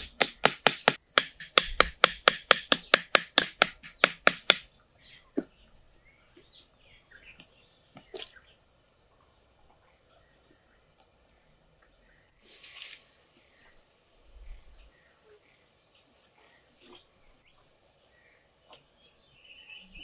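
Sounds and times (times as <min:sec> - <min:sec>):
high-pitched insect trill: 0:04.0 - 0:20.0.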